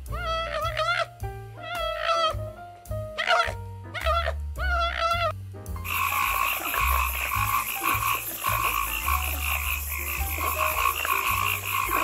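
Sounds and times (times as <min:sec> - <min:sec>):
chorus of frogs calling: 0:00.1 - 0:01.1, 0:01.7 - 0:02.4, 0:03.2 - 0:12.0.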